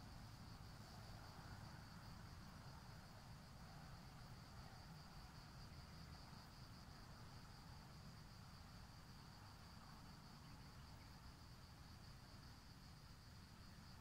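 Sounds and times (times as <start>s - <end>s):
crickets chirring: 0.0s - 14.0s
low background hiss: 0.0s - 14.0s.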